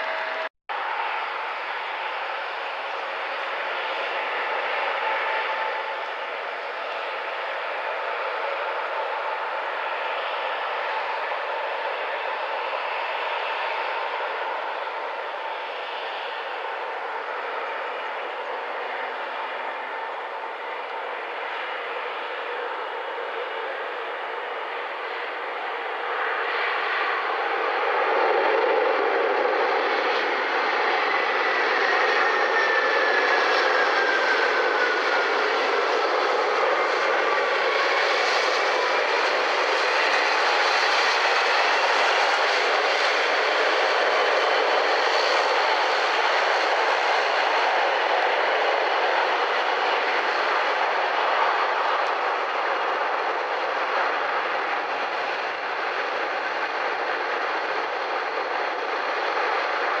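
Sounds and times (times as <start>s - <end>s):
jet engine whine: 0.0s - 60.0s
jet engines rushing: 0.0s - 60.0s.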